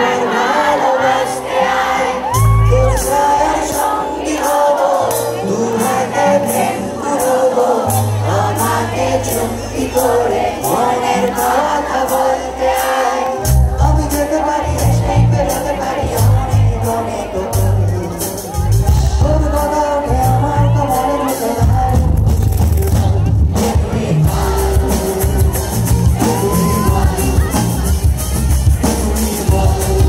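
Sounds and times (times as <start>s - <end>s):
crowd noise: 0.0s - 30.0s
keyboard: 0.0s - 30.0s
person singing: 0.0s - 30.0s
drums: 2.2s - 30.0s.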